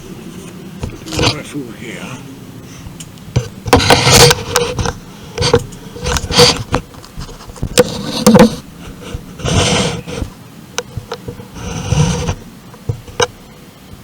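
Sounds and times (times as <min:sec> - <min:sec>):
handling knocks and scrapes: 0:00.4 - 0:01.5, 0:02.8 - 0:13.3.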